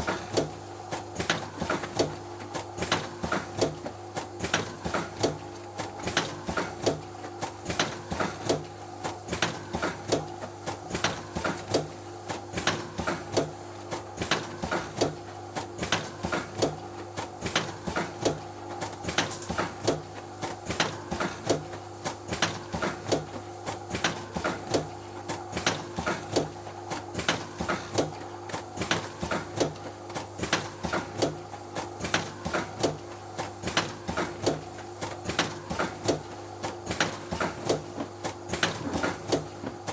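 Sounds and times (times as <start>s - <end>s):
packaging machine hum: 0.0s - 39.9s.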